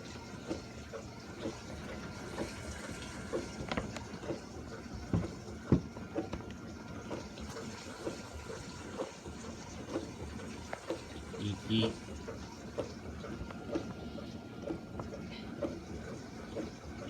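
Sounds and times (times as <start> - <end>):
dishwasher water rushing: 0.0 - 17.0
water splashes and knocks: 0.0 - 17.0.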